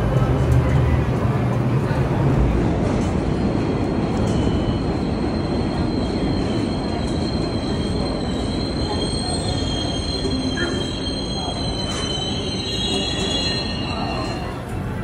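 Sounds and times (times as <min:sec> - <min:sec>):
train rumble: 0:00.0 - 0:15.0
train wheels squealing on rails: 0:03.0 - 0:15.0.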